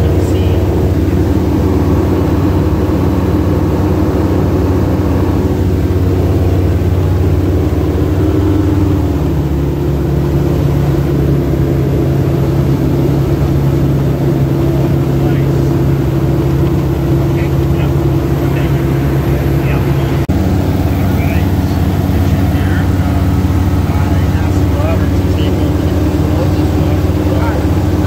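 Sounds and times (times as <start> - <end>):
aircraft engine and propeller: 0.0 - 28.0.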